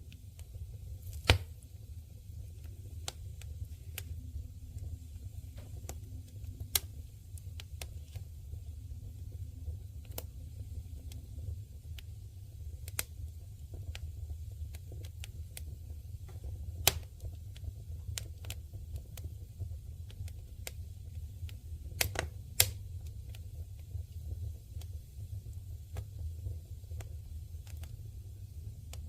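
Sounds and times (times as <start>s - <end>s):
campfire crackling and popping: 0.0s - 29.0s
low steady rumble: 0.0s - 29.0s.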